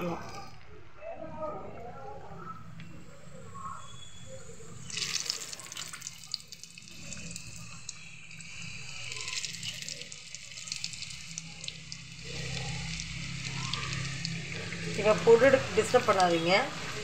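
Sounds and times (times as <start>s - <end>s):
food deep-frying in hot oil: 2.8s - 17.0s.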